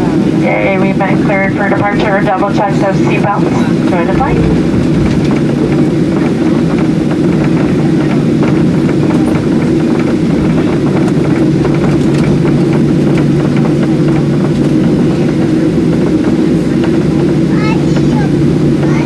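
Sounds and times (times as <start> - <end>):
jet engine hum in cabin: 0.0 - 19.0.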